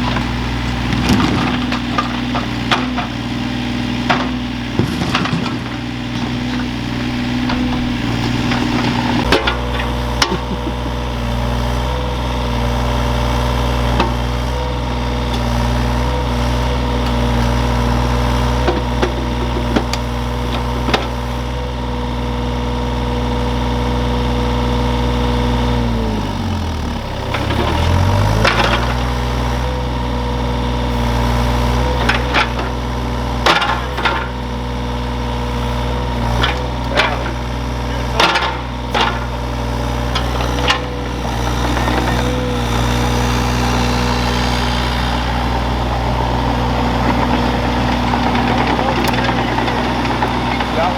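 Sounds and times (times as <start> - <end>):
excavator engine running: 0.0 - 50.9.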